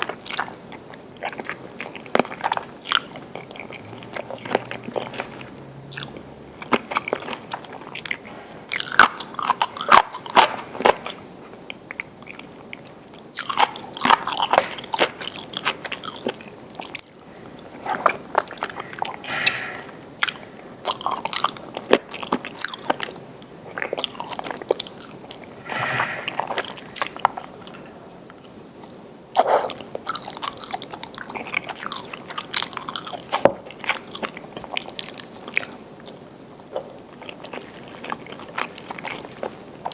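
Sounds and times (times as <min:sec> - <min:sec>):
person biting and chewing food: 0:00.0 - 0:36.2.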